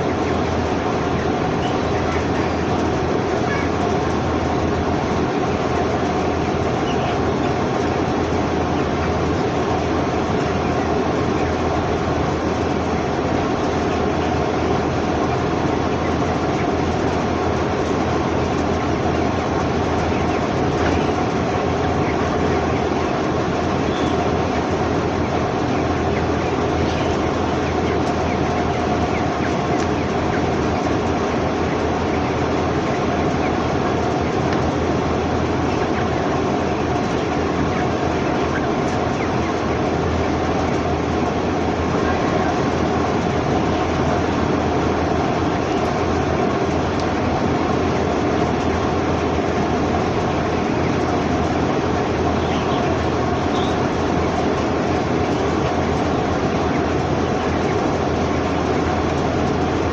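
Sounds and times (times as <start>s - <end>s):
chickens chattering: 0.0s - 59.9s
constant mechanical hum: 0.0s - 59.9s.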